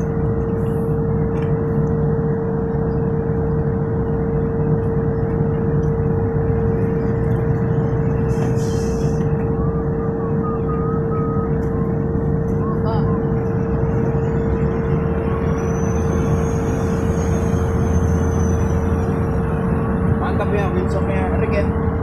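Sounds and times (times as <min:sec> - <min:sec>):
constant whine: 0:00.0 - 0:22.0
drilling rig machinery droning: 0:00.0 - 0:22.0.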